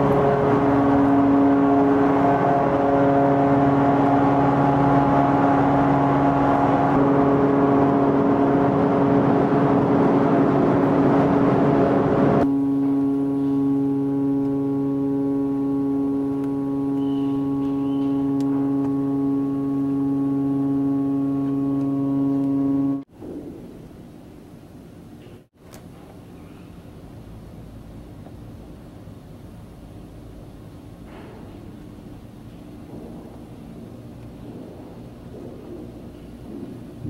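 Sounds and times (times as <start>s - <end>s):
steady low mechanical drone: 0.0s - 25.5s, 26.1s - 37.0s.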